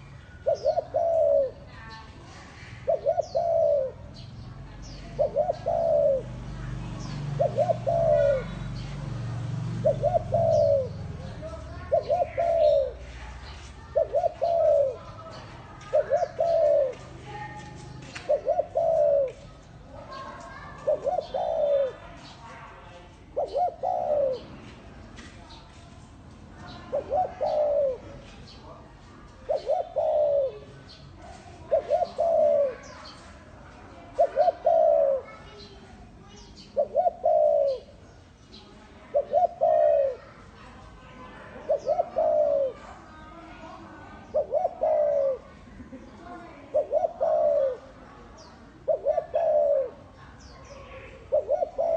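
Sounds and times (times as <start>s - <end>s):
dove cooing: 0.0s - 24.7s, 26.6s - 35.6s, 36.2s - 51.9s
small birds chirping: 0.0s - 51.9s.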